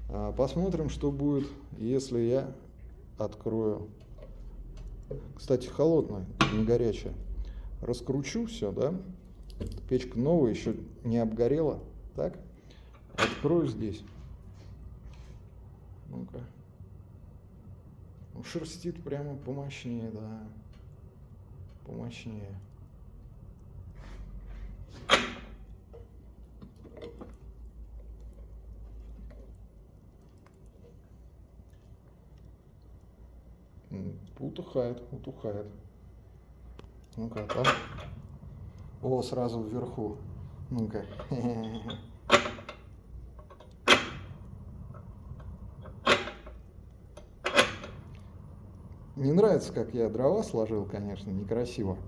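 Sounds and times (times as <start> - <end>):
stove draught rumble: 0.0 - 16.0, 16.6 - 34.4, 35.8 - 52.0
wood fire crackling: 0.0 - 52.0.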